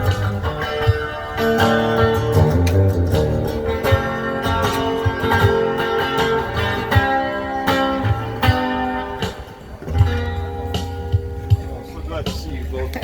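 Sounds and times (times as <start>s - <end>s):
guitar-led country music: 0.0s - 13.0s.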